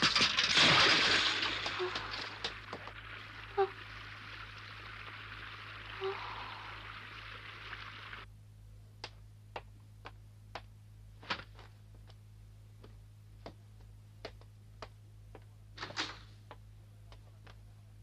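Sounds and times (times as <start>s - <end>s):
steady low hum: 0.5s - 18.0s.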